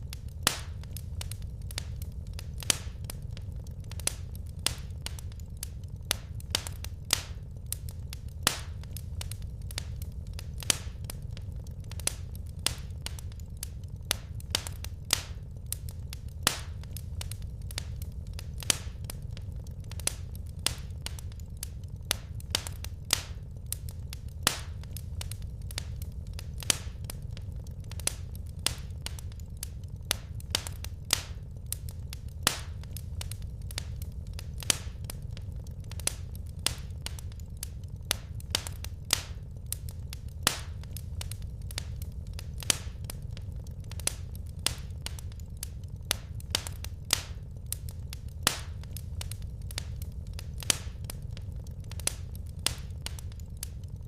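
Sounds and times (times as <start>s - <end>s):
steady low rumble: 0.0s - 54.0s
wood fire crackling: 0.0s - 54.0s.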